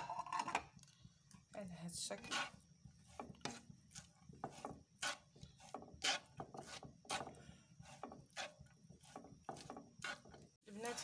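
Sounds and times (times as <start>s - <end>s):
spatula scraping frying pan: 2.2s - 11.0s.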